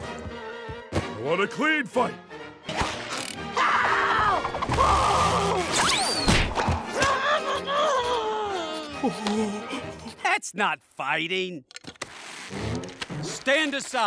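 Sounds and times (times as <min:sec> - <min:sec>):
music: 0:00.0 - 0:10.4, 0:12.5 - 0:13.4.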